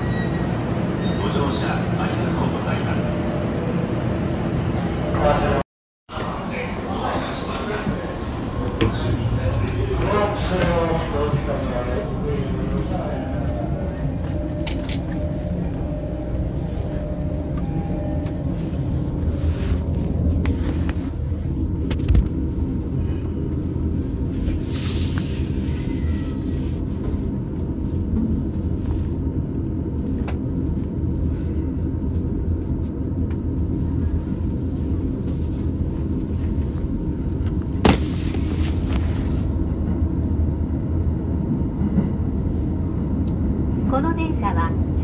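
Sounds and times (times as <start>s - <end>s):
train wheels rumbling on track: 6.1s - 45.0s.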